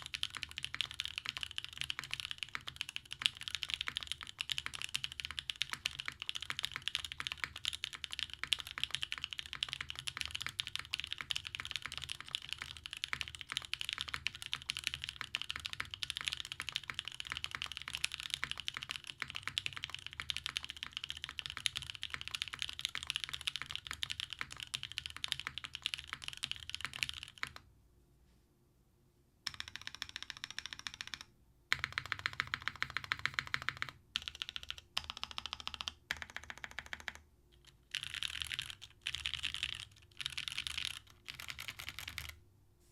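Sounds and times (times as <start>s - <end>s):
mechanical keyboard typing: 0.0s - 27.6s, 29.4s - 42.4s.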